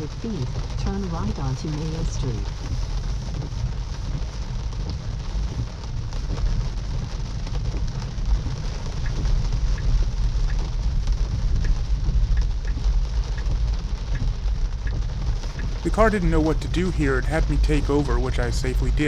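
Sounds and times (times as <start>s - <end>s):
rain drops ticking on car: 0.0s - 19.0s
tyres rumbling on wet road: 0.0s - 19.0s.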